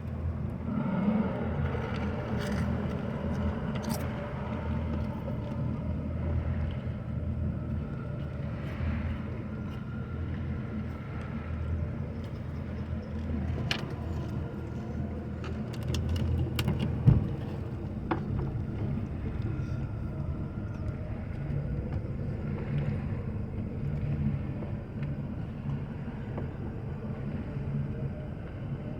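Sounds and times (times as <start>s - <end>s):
boat engine idling: 0.0s - 28.9s.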